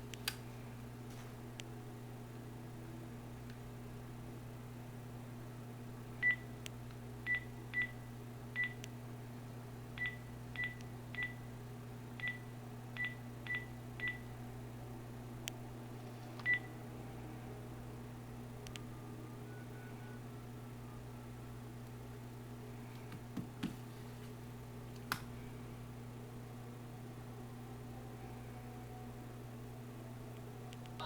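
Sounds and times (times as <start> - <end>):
low hum: 0.0 - 23.1, 23.9 - 31.0.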